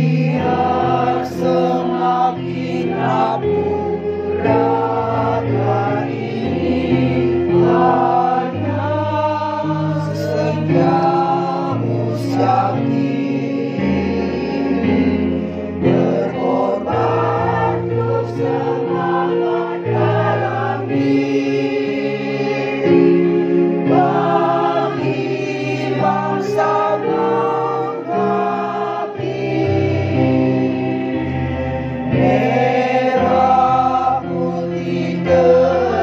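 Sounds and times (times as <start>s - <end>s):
women's choir singing: 0.0s - 36.0s.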